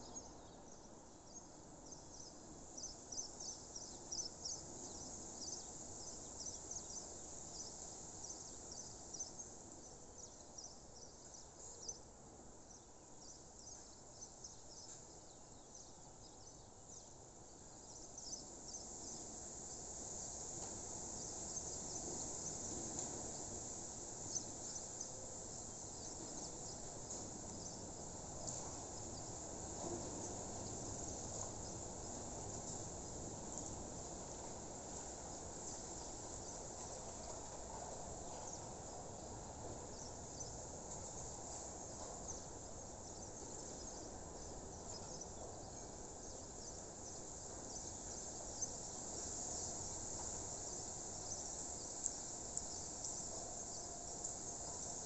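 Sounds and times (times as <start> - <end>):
insects chirping: 0.0 - 12.0, 12.7 - 55.0
faint low hiss: 0.0 - 55.0.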